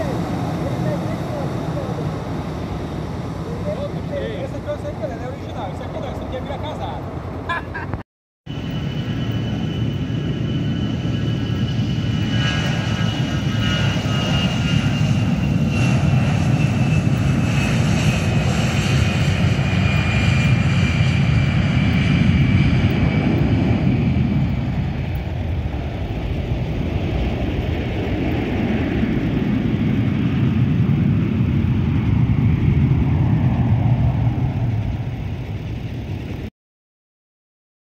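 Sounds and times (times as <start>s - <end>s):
jet engines at takeoff: 0.0s - 36.5s.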